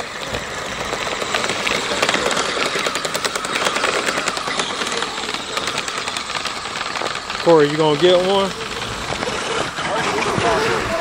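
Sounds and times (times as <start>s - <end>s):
toy tracks clattering: 0.0s - 11.0s.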